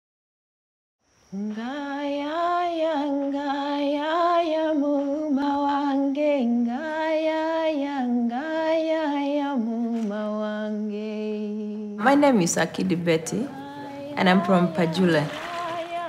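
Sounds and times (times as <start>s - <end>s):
woman singing slow melody: 1.3s - 16.0s.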